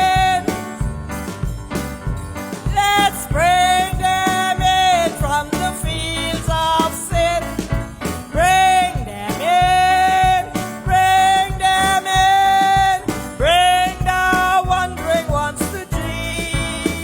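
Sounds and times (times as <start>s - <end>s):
person singing: 0.0s - 1.0s, 2.6s - 17.0s
guitar: 0.0s - 17.0s.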